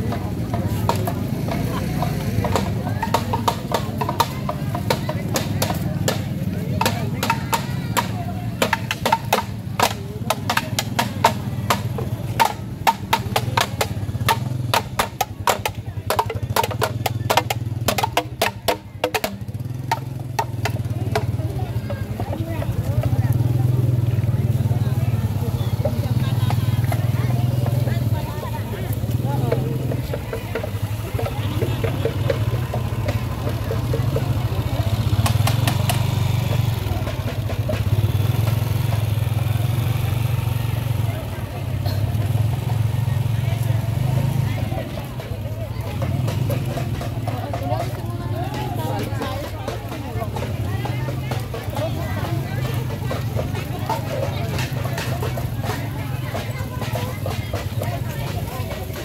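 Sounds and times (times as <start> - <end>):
scooter engine humming: 0.0 - 59.0
sharp clacking percussion: 0.0 - 59.0.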